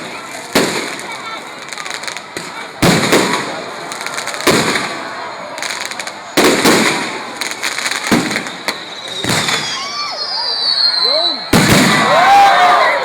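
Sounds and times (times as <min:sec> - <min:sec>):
fireworks crackling: 0:00.0 - 0:12.4
fireworks bangs: 0:00.0 - 0:12.6.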